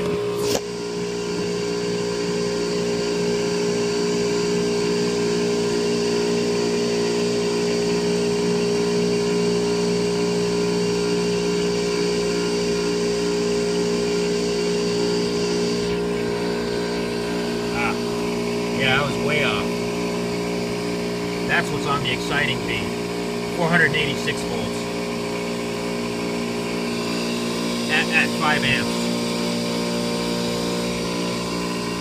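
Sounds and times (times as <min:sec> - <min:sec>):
machine hum with high whine: 0:00.0 - 0:32.0.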